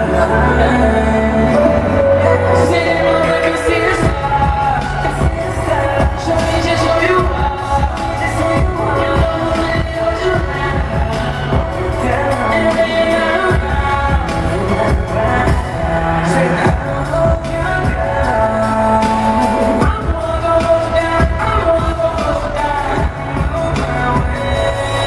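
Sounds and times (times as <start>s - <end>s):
person singing into microphone: 0.0s - 25.0s
pop concert music: 0.0s - 25.0s
heavy steady beat: 2.6s - 25.0s.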